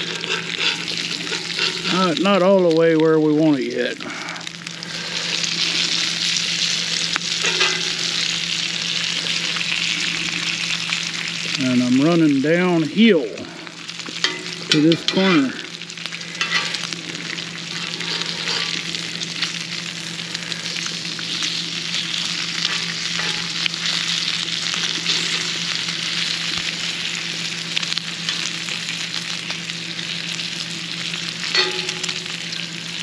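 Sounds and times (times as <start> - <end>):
bacon sizzling on a griddle: 0.0 - 33.0.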